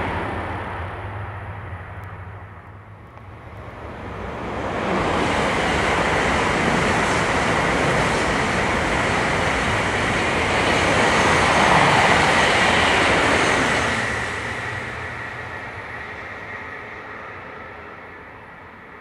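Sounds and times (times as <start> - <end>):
high-speed trains passing: 0.0 - 19.0.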